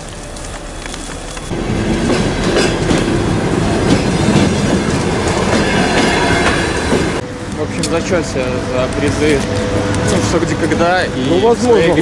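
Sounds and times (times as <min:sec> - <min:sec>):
wheels clicking over rail joints: 0:00.0 - 0:11.0
train rumbling: 0:00.0 - 0:12.0.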